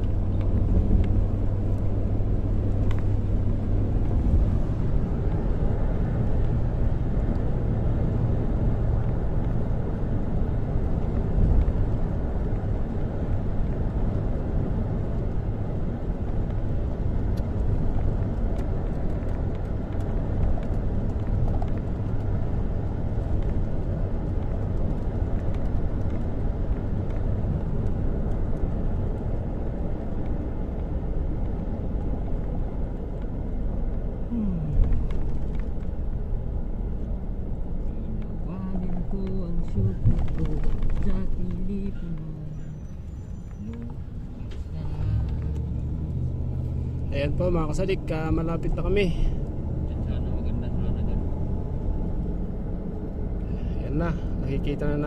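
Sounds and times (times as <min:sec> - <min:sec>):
constant low hum: 0:00.0 - 0:55.0
vehicle engine and road rumble: 0:00.0 - 0:55.0.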